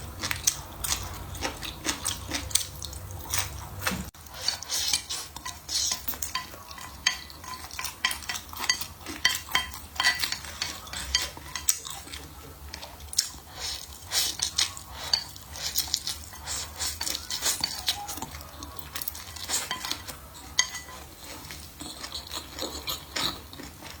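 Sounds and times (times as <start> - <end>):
utensils clinking against a bowl: 0.0 - 24.0.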